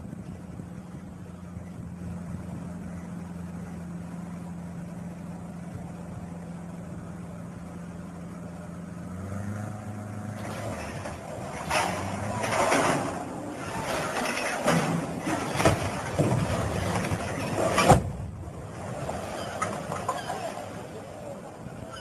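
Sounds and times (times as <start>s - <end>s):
engine running with low hum: 0.0s - 22.0s.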